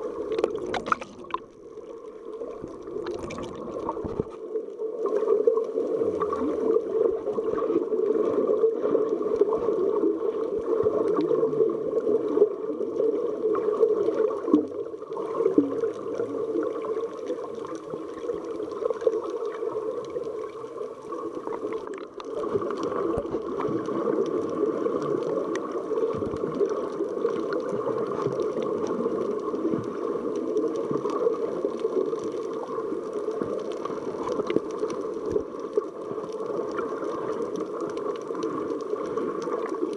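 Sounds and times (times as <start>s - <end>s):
muffled underwater gurgling rush: 0.0s - 39.9s.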